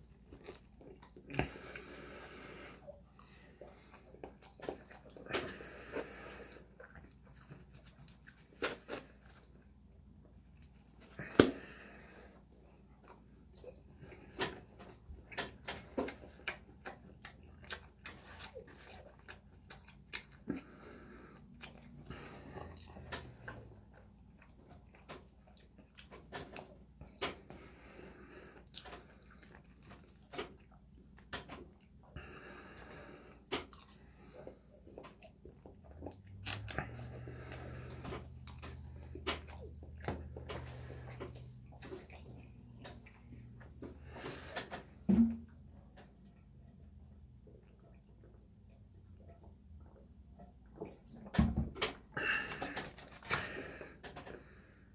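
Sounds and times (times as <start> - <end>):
close chewing mouth sounds: 0.0 - 54.7.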